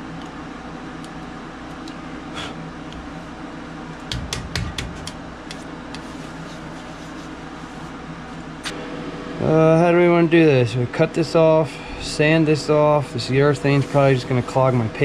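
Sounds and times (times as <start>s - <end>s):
shop machinery humming: 0.0s - 15.0s.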